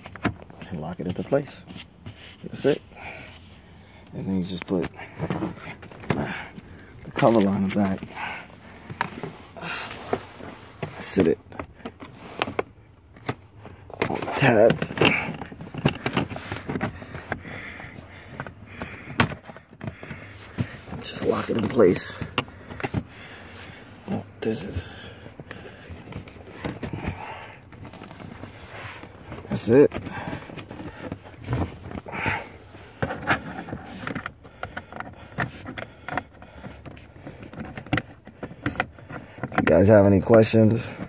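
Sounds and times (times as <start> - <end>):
plastic rubbing and scraping: 4.2 - 41.0.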